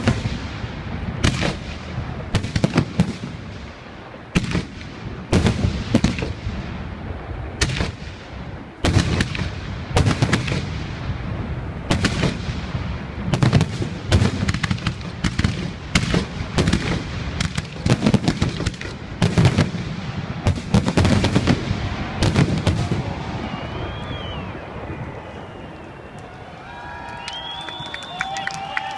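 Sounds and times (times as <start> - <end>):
fireworks cracks and booms: 0.0 - 26.2.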